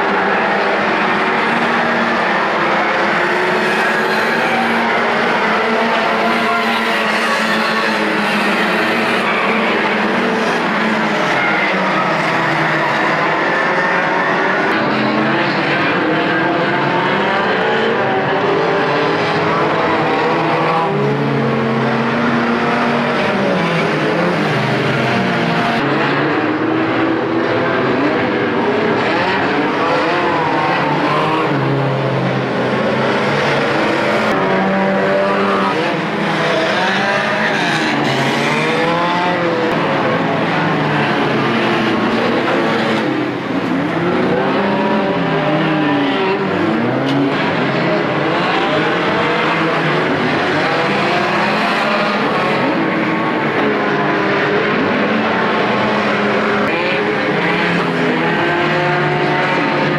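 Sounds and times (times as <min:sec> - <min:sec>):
racing car engines revving: 0:00.0 - 0:59.9.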